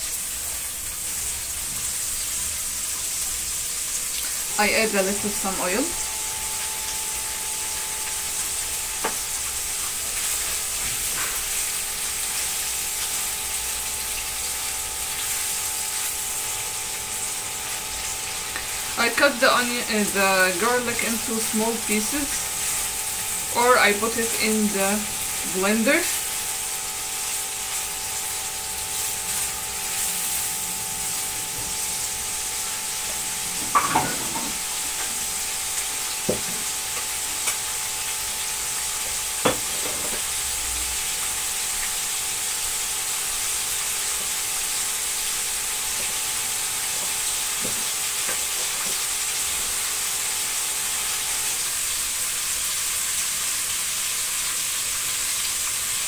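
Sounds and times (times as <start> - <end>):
liver sizzling in oil: 0.0 - 56.0.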